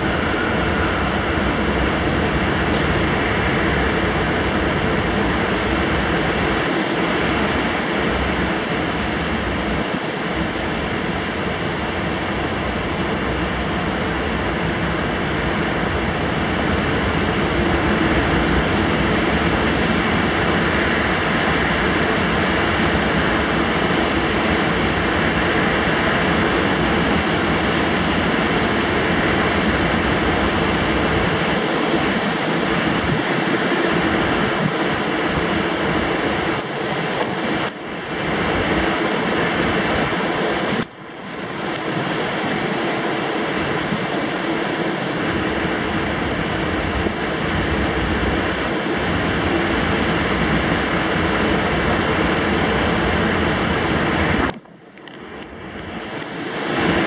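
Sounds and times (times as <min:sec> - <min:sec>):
heavy driving rain: 0:00.0 - 0:54.6, 0:55.3 - 0:57.0
storm wind between buildings: 0:00.0 - 0:57.0.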